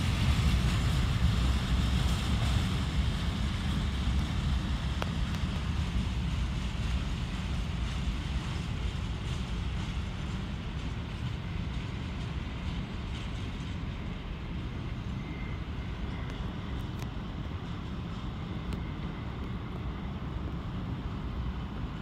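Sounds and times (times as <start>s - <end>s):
train wagons rolling on tracks: 0.0s - 22.0s.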